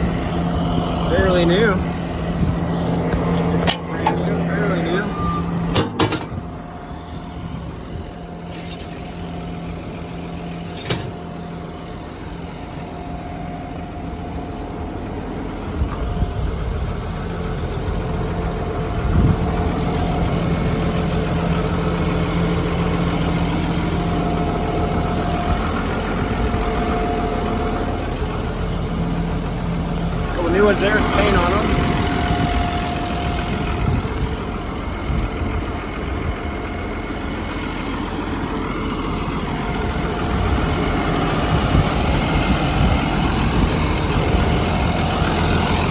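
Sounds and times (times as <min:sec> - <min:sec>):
bulldozer diesel engine idling: 0:00.0 - 0:45.9.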